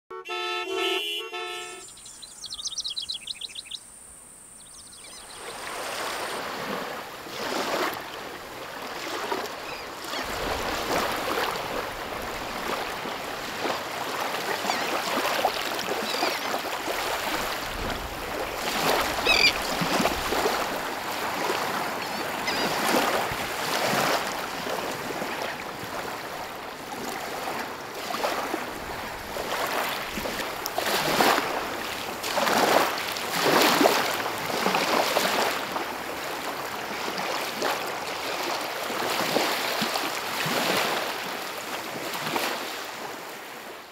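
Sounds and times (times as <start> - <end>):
small waves lapping: 4.6 - 43.9.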